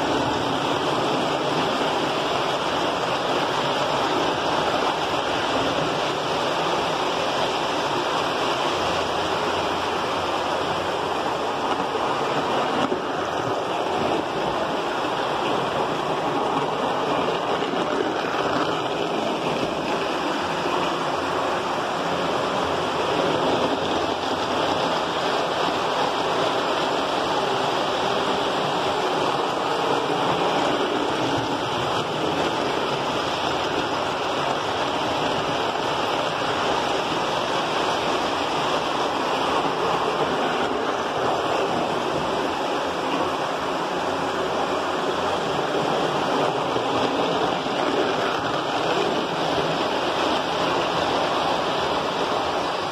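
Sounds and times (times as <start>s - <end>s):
model trains rumbling on metal track: 0.0s - 52.9s.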